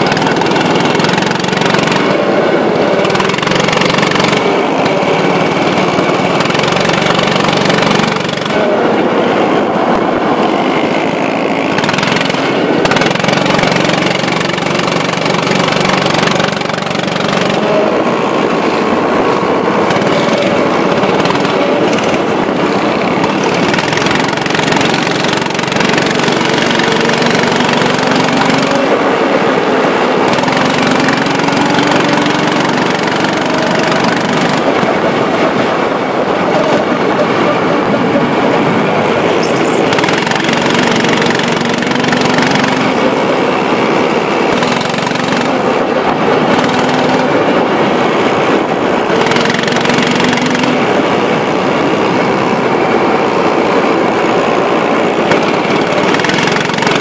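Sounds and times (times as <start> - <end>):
go-kart engines racing: 0.0 - 57.0.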